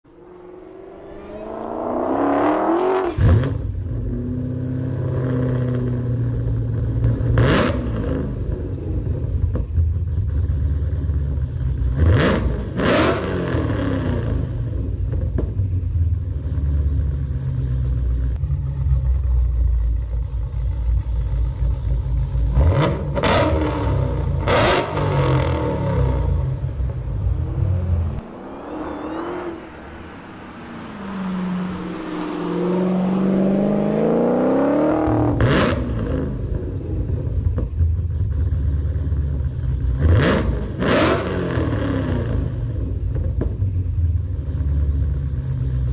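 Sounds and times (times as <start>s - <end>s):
car exhaust idling and revving: 0.0s - 45.9s.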